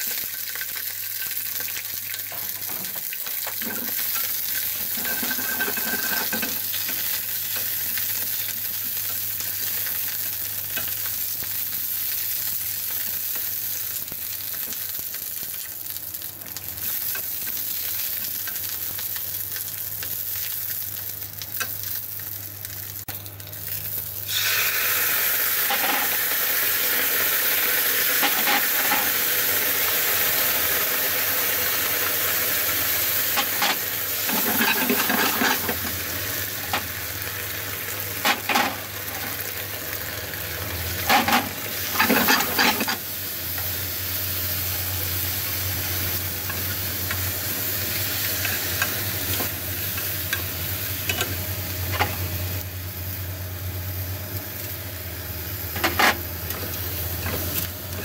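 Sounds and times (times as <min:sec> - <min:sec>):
peppers sizzling in oil: 0:00.0 - 0:58.0.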